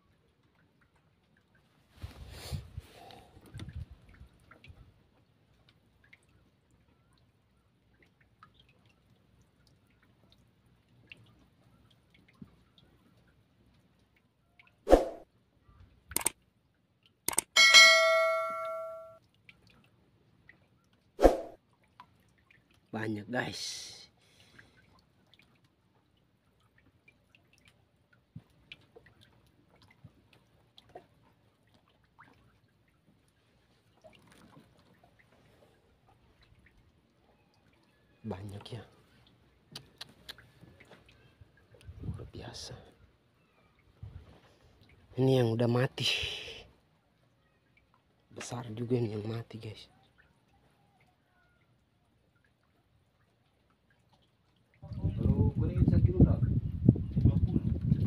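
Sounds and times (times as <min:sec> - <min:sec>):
water drips and splashes: 0:00.0 - 0:56.0.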